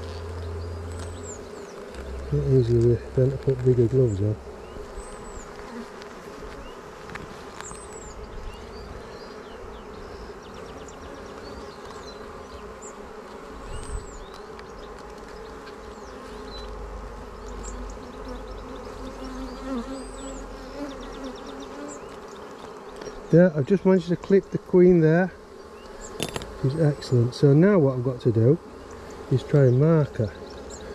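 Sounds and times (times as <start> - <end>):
honeybees buzzing: 0.0 - 30.9.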